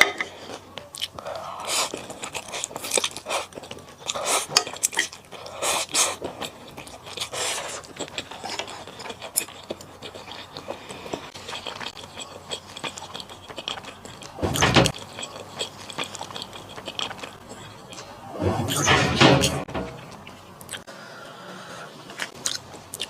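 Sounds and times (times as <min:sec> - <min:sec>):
chewing and biting: 0:00.4 - 0:18.2, 0:22.1 - 0:23.0.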